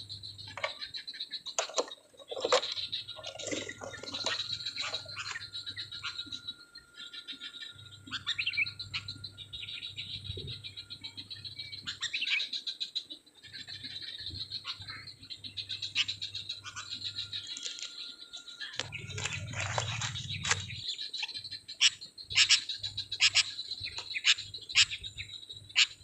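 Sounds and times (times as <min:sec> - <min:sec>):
bulbuls chirping: 0:00.0 - 0:26.0.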